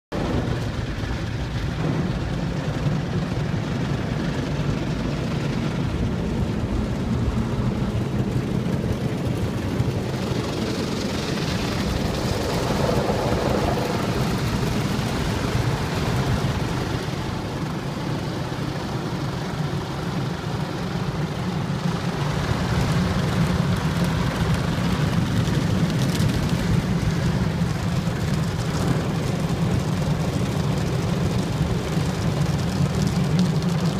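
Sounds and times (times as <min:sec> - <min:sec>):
low machine drone: 0:00.2 - 0:33.9
spraying water: 0:00.2 - 0:33.9.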